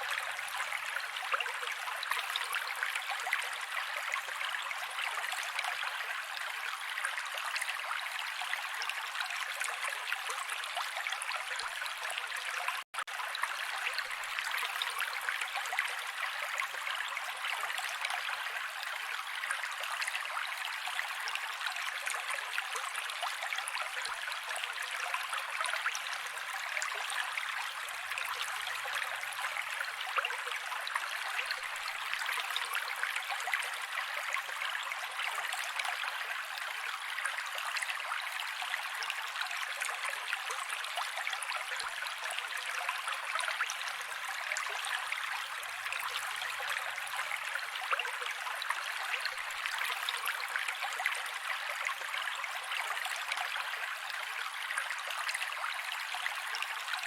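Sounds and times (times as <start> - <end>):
creek water over rocks: 0.0 - 57.0.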